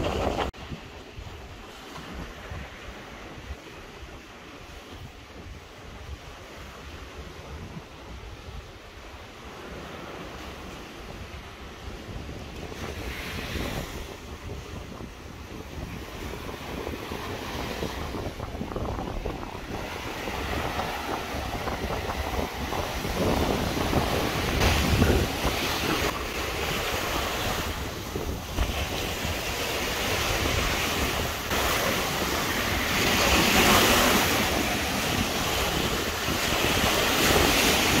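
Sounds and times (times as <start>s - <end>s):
waves washing on shore: 0.0s - 38.0s
wind buffeting microphone: 0.0s - 38.0s.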